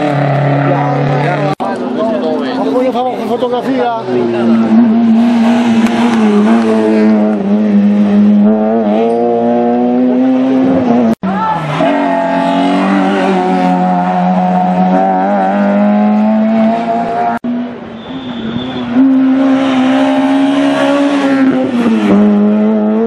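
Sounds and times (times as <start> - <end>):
rally car engine revving: 0.0 - 2.9, 3.5 - 17.9, 18.8 - 23.0.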